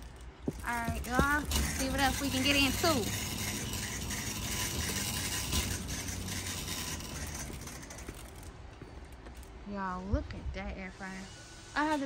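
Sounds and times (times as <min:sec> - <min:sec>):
shopping cart rolling on concrete: 0:00.0 - 0:10.0.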